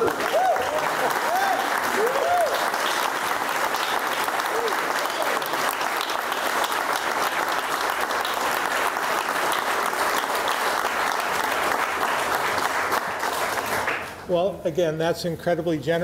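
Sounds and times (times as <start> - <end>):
people clapping: 0.0 - 14.3.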